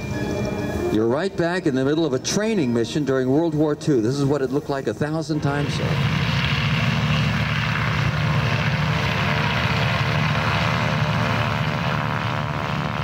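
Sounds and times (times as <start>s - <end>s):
biplane propeller drone: 0.0s - 13.0s.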